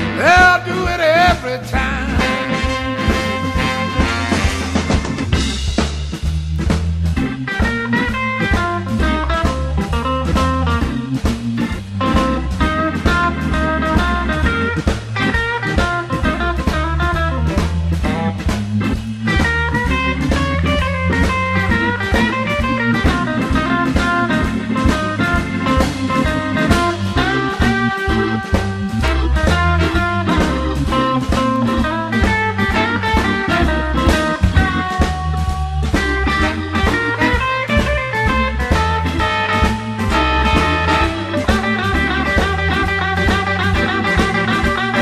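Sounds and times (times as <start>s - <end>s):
electric guitar solo: 0.0s - 5.3s, 7.2s - 45.0s
bass: 0.0s - 45.0s
drum-kit shuffle: 0.0s - 45.0s.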